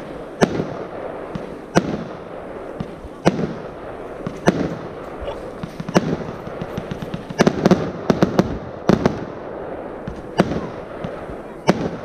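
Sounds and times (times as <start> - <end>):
fireworks bursting with bangs: 0.0 - 12.0
fireworks shots thumping: 0.0 - 12.0.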